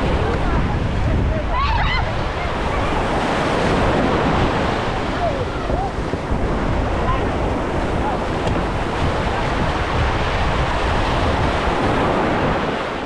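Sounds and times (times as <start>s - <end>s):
sea waves breaking: 0.0s - 13.0s
wind noise on microphone: 0.0s - 13.0s.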